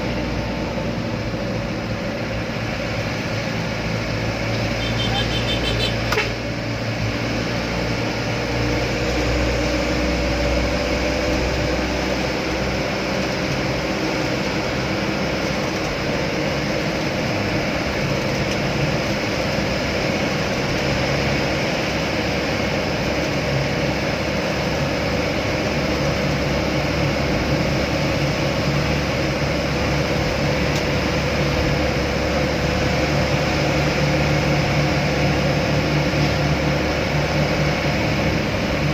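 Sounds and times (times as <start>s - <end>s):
truck engine droning: 0.0s - 38.9s.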